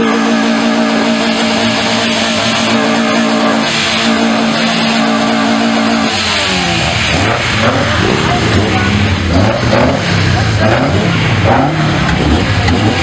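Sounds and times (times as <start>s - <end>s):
car engine high revs: 0.0s - 13.0s
other car engines revving: 0.0s - 13.0s.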